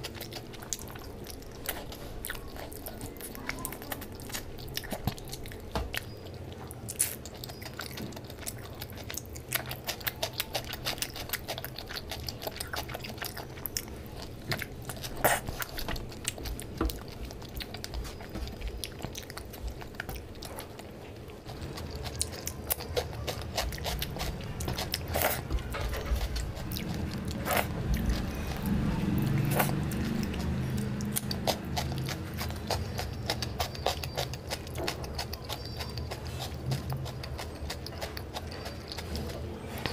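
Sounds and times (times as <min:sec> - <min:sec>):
person chewing with wet smacks: 0:00.0 - 0:39.9.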